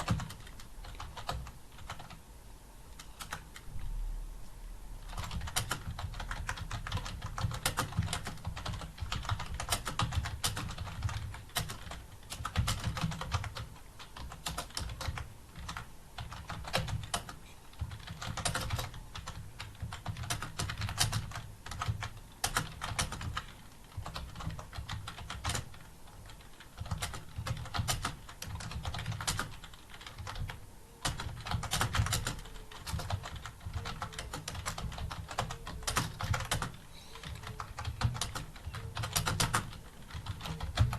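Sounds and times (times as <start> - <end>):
fast typing on keyboard: 0.0 - 2.2, 3.0 - 3.7, 5.0 - 40.9.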